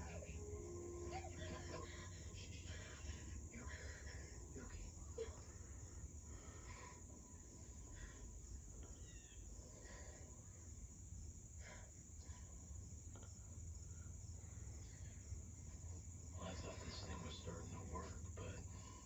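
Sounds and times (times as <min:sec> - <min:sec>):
faint television audio: 0:00.0 - 0:19.0
low hum: 0:00.0 - 0:19.0.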